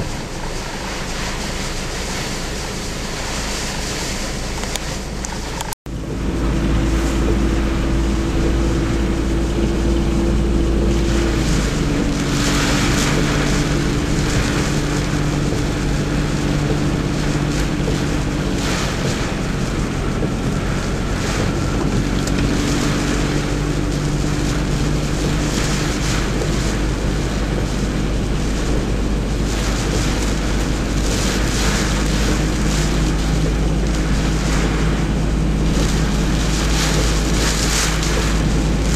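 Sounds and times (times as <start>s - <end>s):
strong wind buffeting microphone: 0.0s - 38.9s
steady low hum: 5.9s - 38.9s.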